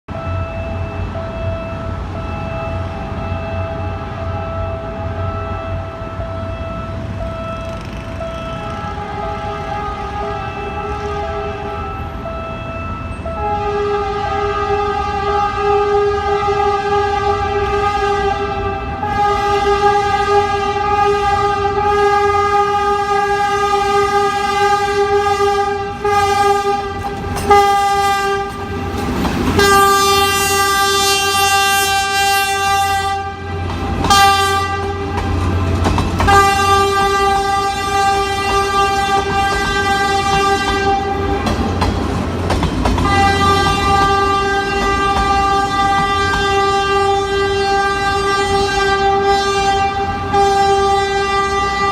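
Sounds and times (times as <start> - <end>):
train horn: 0.1 - 41.8, 43.0 - 51.9
train rumble and clickety-clack: 0.1 - 51.9.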